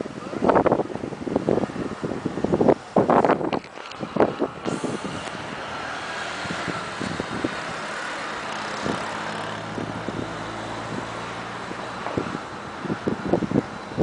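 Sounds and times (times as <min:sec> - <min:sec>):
low engine hum: 0:00.0 - 0:14.0
rushing wind: 0:00.0 - 0:14.0.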